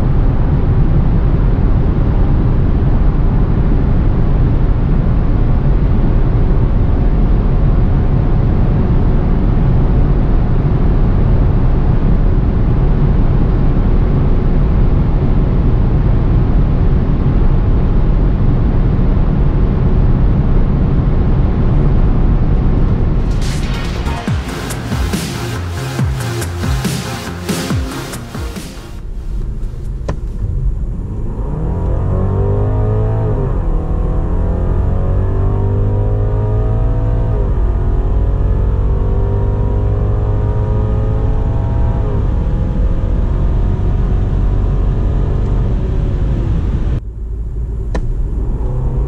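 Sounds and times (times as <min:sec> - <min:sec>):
wind and road noise in car: 0:00.0 - 0:23.5, 0:29.0 - 0:49.0.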